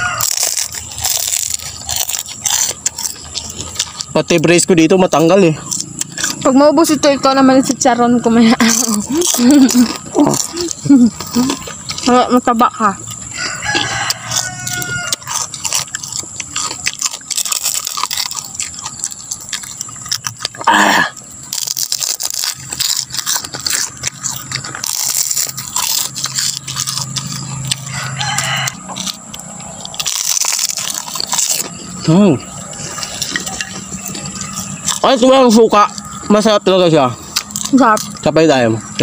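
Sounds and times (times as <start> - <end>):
people crunching crispy snack: 0.0 - 39.0.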